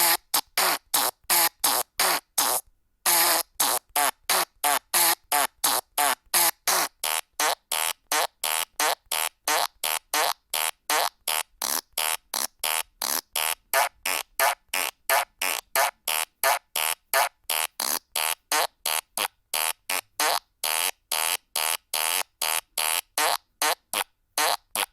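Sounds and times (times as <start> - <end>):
fart sound effects: 0.0 - 24.9.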